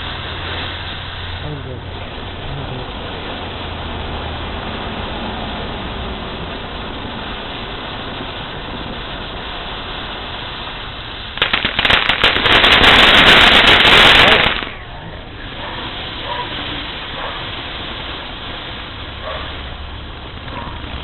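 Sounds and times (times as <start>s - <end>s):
firecracker pops and crackles: 0.0s - 21.0s
steady hiss: 0.0s - 21.0s.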